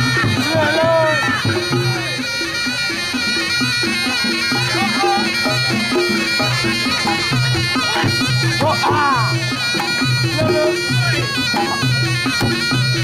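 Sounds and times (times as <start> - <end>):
low gong and drum strokes: 0.0 - 13.0
shawm wailing melody: 0.0 - 13.0.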